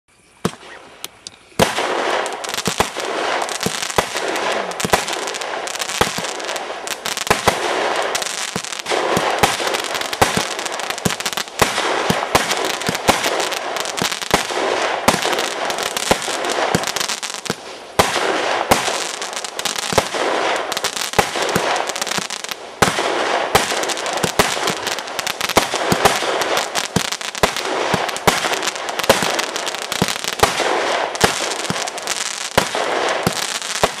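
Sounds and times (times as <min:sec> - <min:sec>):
fireworks hissing and crackling: 0:00.3 - 0:34.0.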